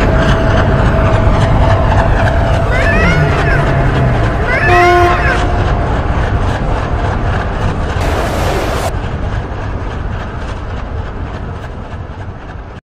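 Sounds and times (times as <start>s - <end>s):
train rumbling: 0.0s - 12.8s.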